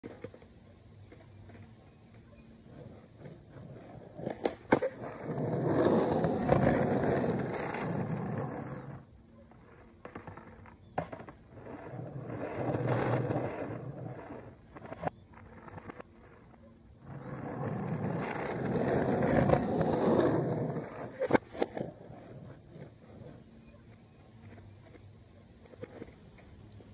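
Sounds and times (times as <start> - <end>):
skateboard clacking: 0.0 - 26.9
skateboard wheels rolling: 0.0 - 26.9.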